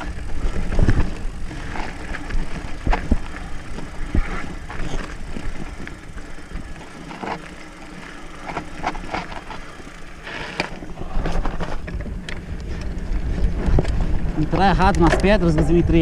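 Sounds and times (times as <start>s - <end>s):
tyres crunching over stones: 0.0s - 15.7s
bike clicks and rattles: 0.0s - 16.0s.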